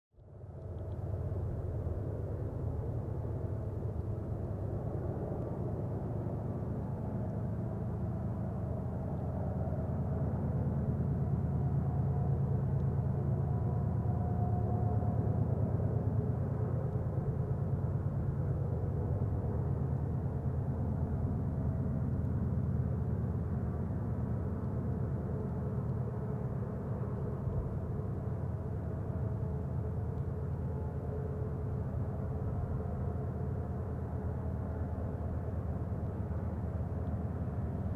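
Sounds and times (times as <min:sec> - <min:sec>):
faint engine hum: 0:00.2 - 0:37.9.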